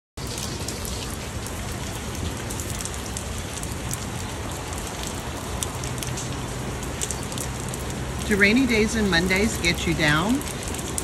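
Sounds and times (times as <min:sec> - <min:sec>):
steady rain falling: 0:00.2 - 0:11.0
water dripping down rain chain: 0:00.2 - 0:11.0.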